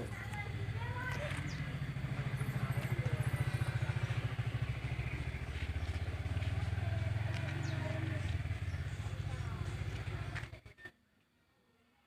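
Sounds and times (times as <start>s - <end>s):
engine running: 0.0s - 10.7s.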